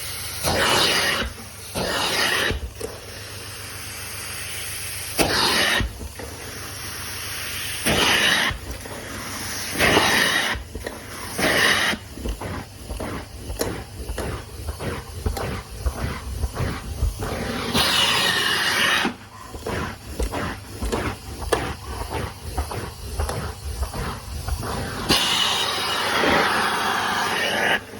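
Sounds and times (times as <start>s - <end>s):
rhythmic strokes on carpet: 0.0s - 3.7s, 4.3s - 27.9s
hissing spray bursts: 0.0s - 27.9s.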